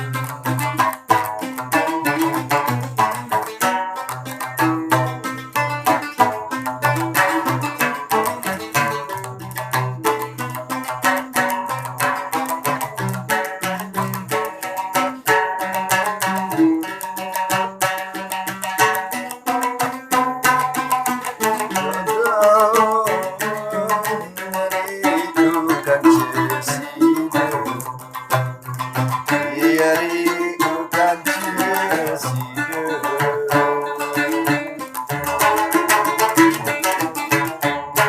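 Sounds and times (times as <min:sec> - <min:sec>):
plucked lute melody: 0:00.0 - 0:38.0.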